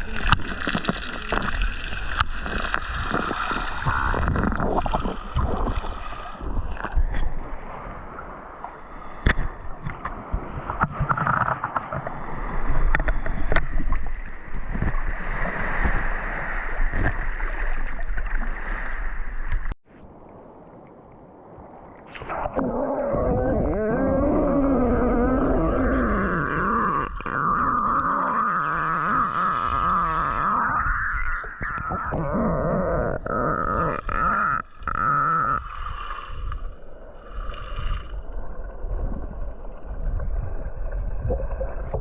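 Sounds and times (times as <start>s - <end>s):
water sloshing and gurgling: 0.0s - 42.0s.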